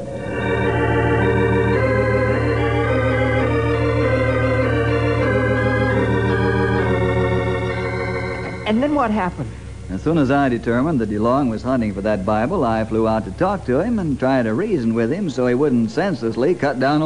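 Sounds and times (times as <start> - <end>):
organ chords: 0.0 - 17.0.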